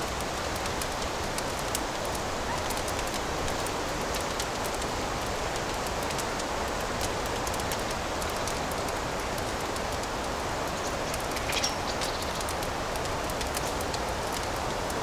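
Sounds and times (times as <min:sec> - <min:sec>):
wood fire crackling and hissing: 0:00.0 - 0:15.0
fire pops: 0:00.2 - 0:15.0.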